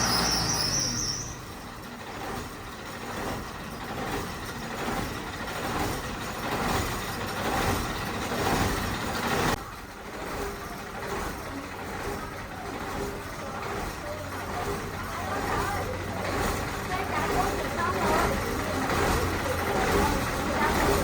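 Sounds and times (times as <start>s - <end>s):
truck running: 0.0s - 21.0s.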